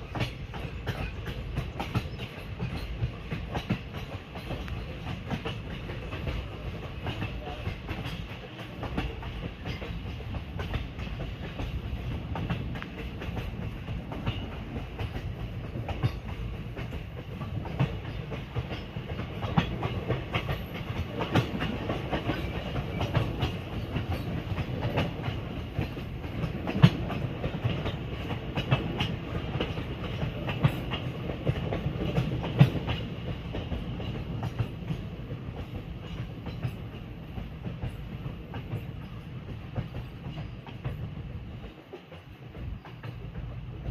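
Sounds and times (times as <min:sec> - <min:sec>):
train rumbling on track: 0:00.0 - 0:43.9
wheel clacks over rail joints: 0:00.0 - 0:43.9.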